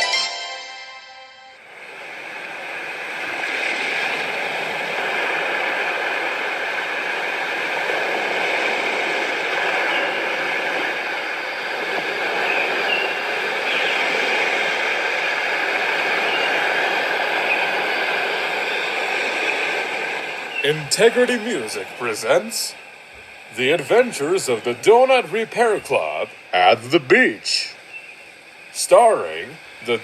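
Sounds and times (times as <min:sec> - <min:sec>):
rushing surf-like water: 0:01.6 - 0:30.0.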